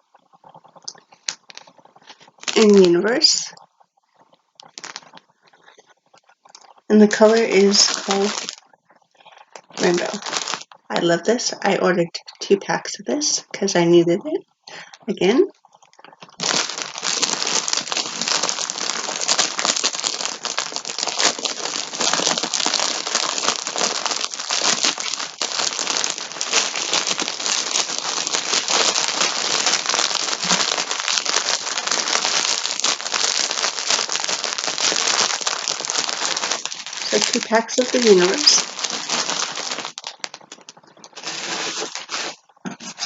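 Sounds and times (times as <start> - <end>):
plastic packaging crinkling: 0.0 - 3.6, 4.6 - 11.5, 15.2 - 43.0.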